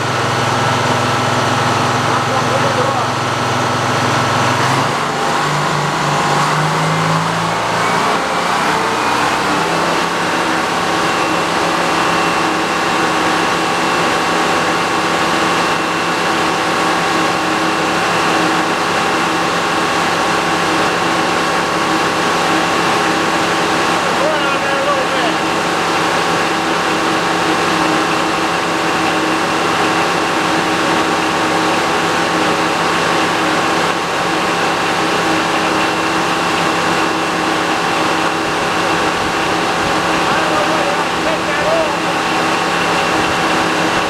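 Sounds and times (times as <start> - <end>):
sawmill engine running: 0.0 - 44.0.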